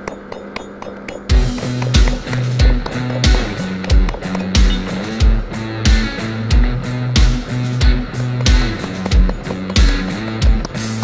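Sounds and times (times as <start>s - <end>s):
rock music: 1.3s - 11.0s.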